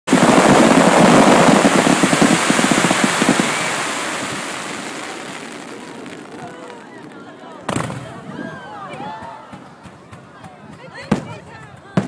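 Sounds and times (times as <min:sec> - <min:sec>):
fireworks crackling: 0:00.1 - 0:12.0.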